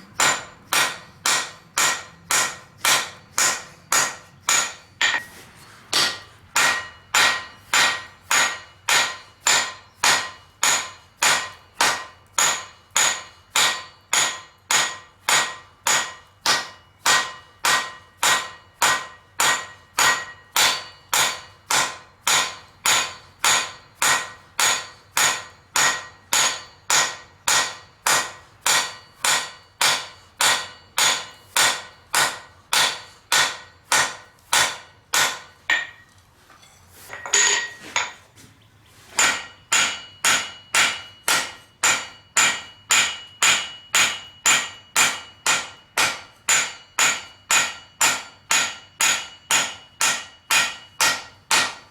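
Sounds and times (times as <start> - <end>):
hammer ringing on anvil: 0.0 - 5.3, 5.9 - 38.2, 39.2 - 51.9.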